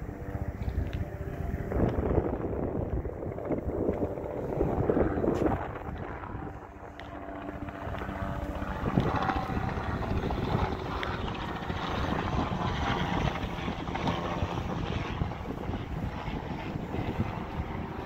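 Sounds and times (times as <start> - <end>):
engine drone: 0.0 - 18.0
low rumbling noise: 0.0 - 18.0.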